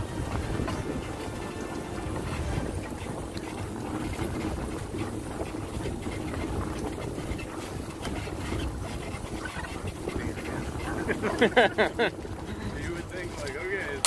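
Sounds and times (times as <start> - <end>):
rig rumbling over dirt trail: 0.0 - 14.0
wind on microphone: 0.0 - 14.0.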